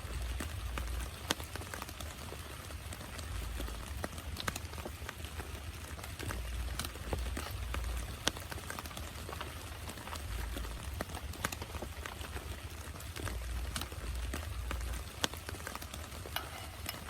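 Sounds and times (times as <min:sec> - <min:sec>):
heavy rain falling: 0:00.0 - 0:17.0
raindrops tapping on surface: 0:00.0 - 0:17.0.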